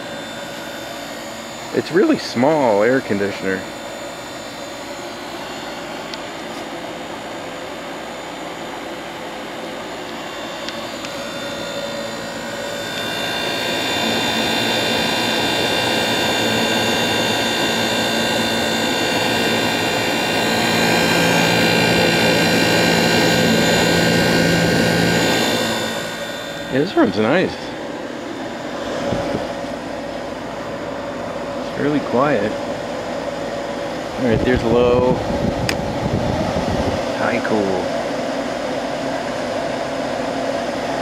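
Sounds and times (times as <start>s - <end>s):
air conditioner running: 0.0s - 41.0s.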